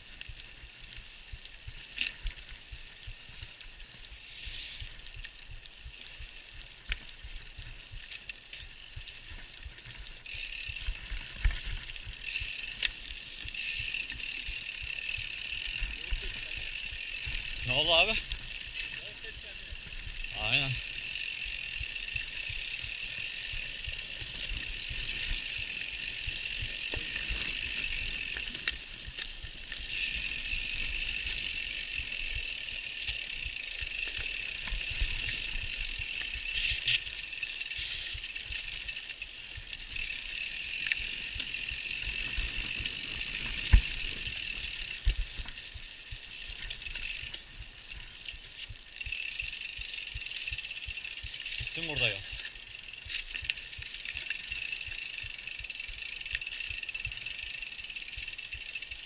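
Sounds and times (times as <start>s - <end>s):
bike rattling: 0.0s - 59.0s
bike tyre rolling noise: 0.0s - 59.0s.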